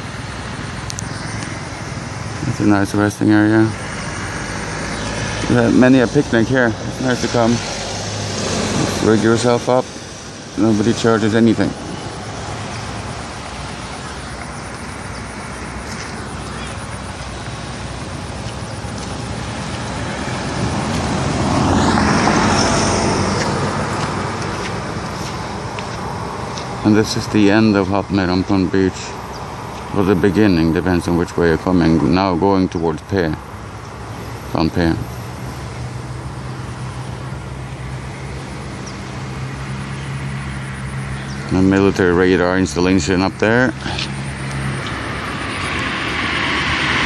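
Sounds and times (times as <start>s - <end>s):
low engine hum: 0.0s - 47.0s
vehicle passing by: 0.0s - 47.0s.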